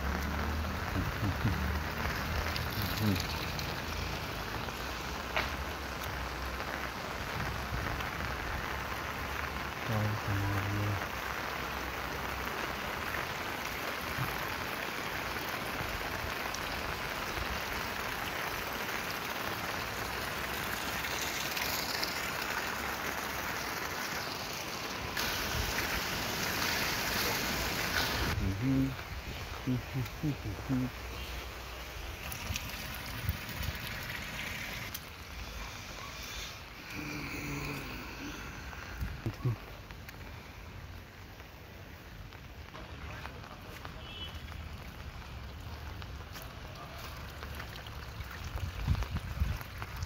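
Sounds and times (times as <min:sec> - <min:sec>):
rain falling on water and road: 0:00.0 - 0:50.0.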